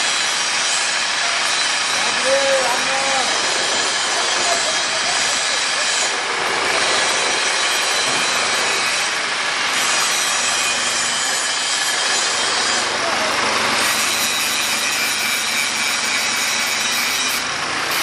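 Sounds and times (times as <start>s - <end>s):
crane machinery rasping: 0.0s - 18.0s.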